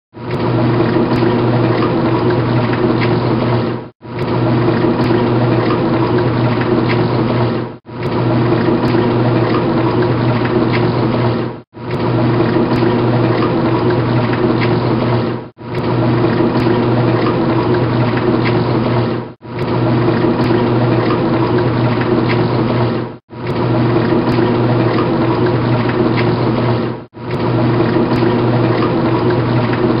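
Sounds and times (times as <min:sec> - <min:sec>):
washing machine motor hum: 0:00.2 - 0:30.0
water sloshing: 0:00.2 - 0:30.0.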